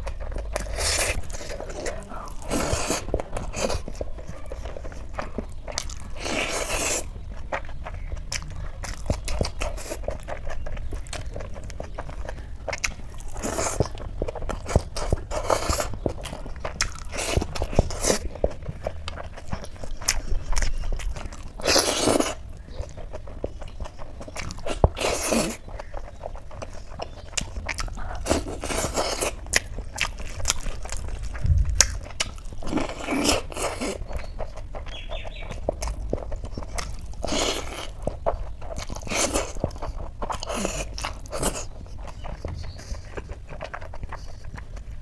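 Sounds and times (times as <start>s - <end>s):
wet chewing: 0.0s - 45.0s.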